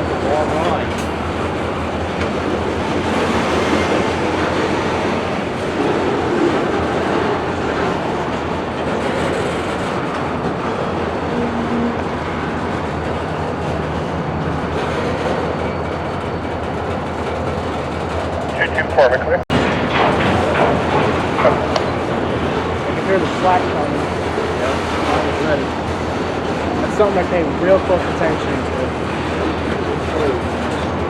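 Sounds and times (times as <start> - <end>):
freight train rumbling: 0.0 - 31.0.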